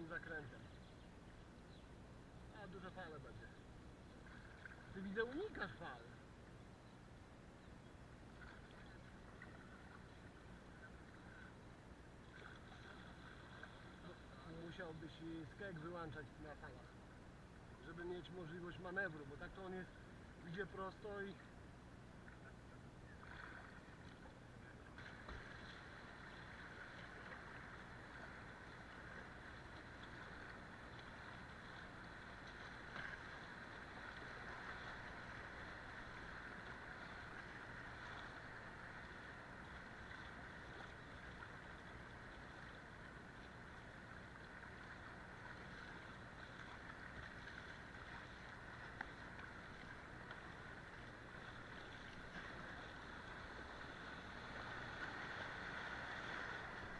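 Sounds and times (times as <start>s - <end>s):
river current splashing around kayak: 2.5s - 6.3s, 8.2s - 56.9s.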